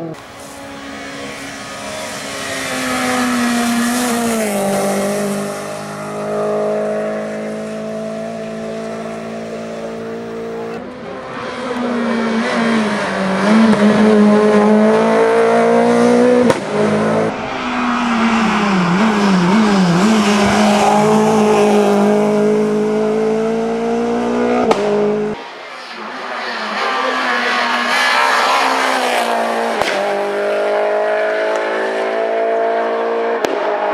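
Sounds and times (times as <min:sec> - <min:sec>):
rally car engine revving hard: 0:00.0 - 0:25.4, 0:26.2 - 0:33.9.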